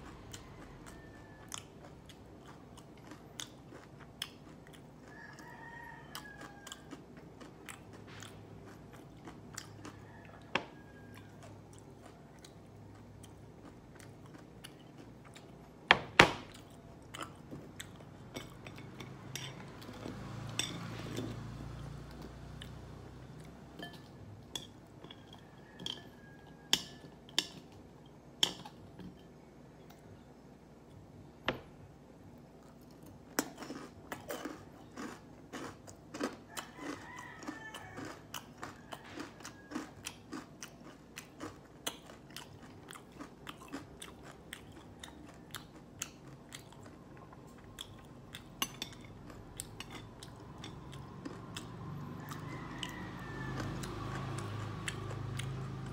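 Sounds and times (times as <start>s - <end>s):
crunchy chewing: 0.0s - 28.8s, 32.4s - 55.9s.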